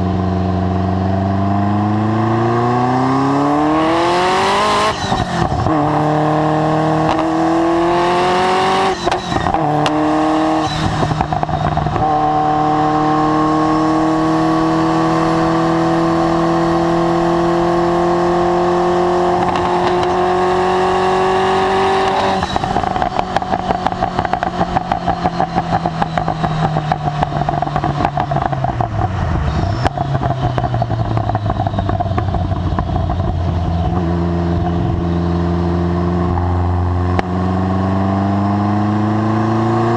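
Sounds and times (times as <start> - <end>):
sports car engine accelerating: 0.0 - 39.9
exhaust popping: 3.0 - 12.6, 15.0 - 37.4.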